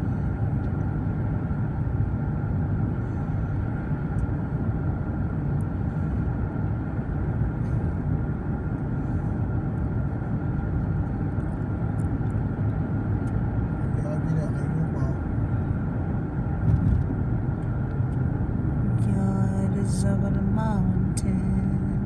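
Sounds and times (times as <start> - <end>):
road and engine noise in car: 0.0 - 22.0.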